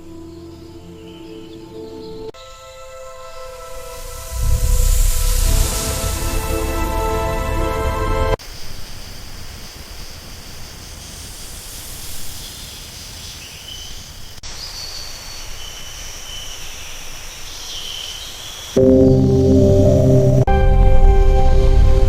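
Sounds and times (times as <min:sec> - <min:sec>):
outdoor background hiss: 0:00.0 - 0:18.8.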